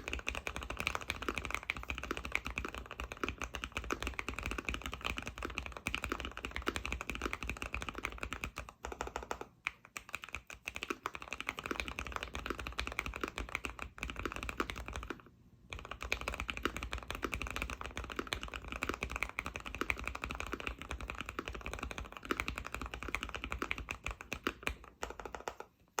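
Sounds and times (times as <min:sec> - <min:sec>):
fast typing on mechanical keyboard: 0:00.0 - 0:25.7.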